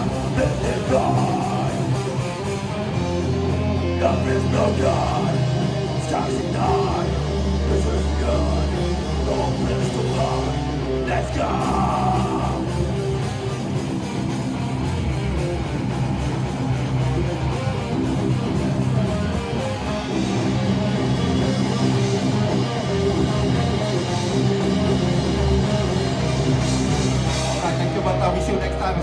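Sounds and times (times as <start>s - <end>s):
live metal band playing: 0.0s - 29.0s.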